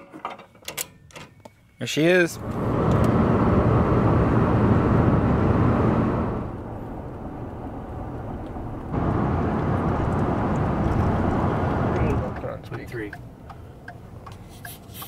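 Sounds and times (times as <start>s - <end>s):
road and wind noise in a truck: 0.7s - 15.0s.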